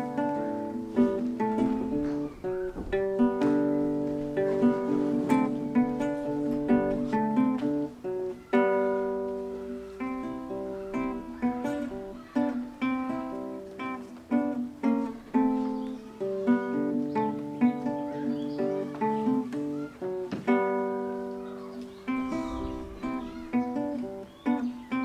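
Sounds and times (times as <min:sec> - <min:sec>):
fingerpicked classical guitar: 0:00.0 - 0:25.0.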